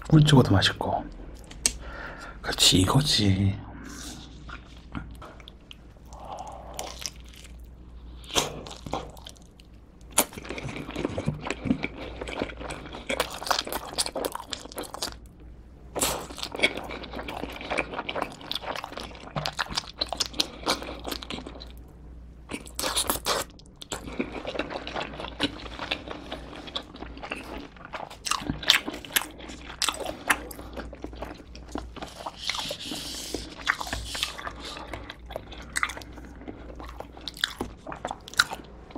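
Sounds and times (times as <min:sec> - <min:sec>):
pizza crunching and chewing: 0:04.1 - 0:15.3, 0:16.0 - 0:21.8, 0:22.5 - 0:38.9.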